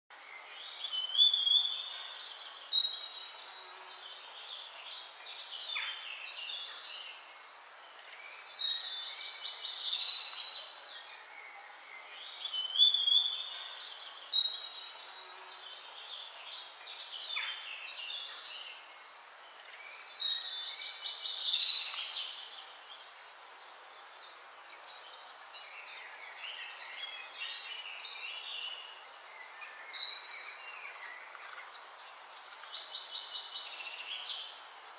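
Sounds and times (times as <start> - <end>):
birds chirping: 0.1 - 34.9
bird trilling song: 0.3 - 34.9.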